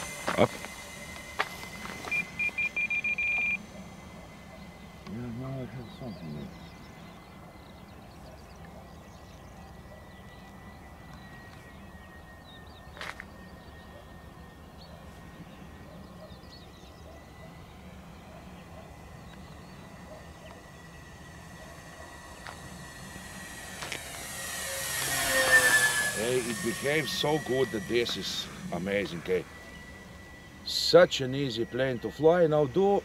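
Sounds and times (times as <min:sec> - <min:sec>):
model plane motors droning: 0:00.0 - 0:33.0.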